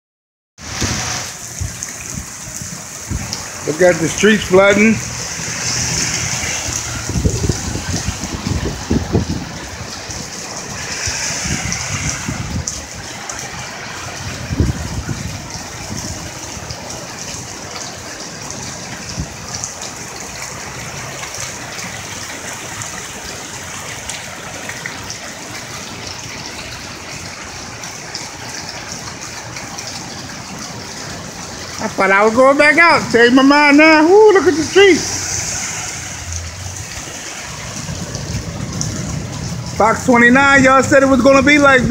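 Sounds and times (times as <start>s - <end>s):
car tyres swishing through water: 0.6s - 41.9s
heavy rain on a flooded street: 0.6s - 41.9s.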